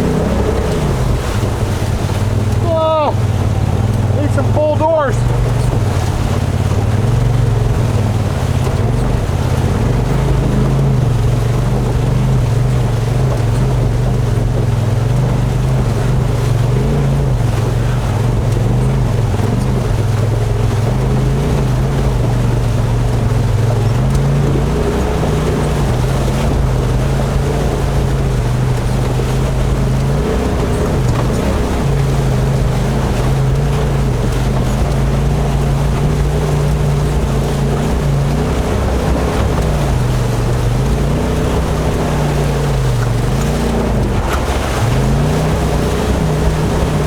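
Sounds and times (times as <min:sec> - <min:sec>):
off-road vehicle engine revving: 0:00.0 - 0:47.0
rush of wind and water: 0:00.0 - 0:47.0.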